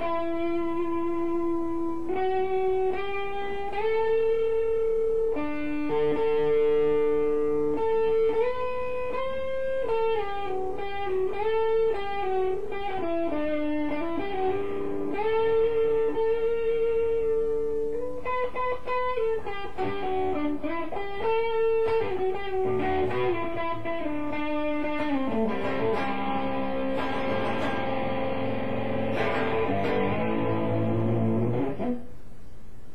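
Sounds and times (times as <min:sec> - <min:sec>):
electric guitar melody and chords: 0:00.0 - 0:32.3.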